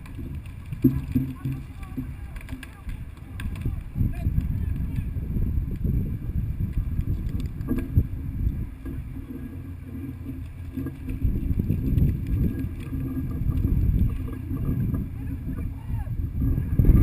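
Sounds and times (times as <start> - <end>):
rumbling wind on microphone: 0.0 - 17.0.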